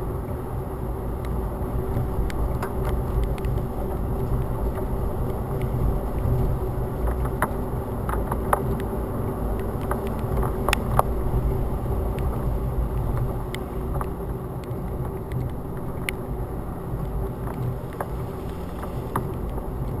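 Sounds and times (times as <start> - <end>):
wind buffeting camera: 0.0 - 20.0
sharp ticks against camera: 2.2 - 8.9, 9.5 - 16.3, 16.9 - 20.0.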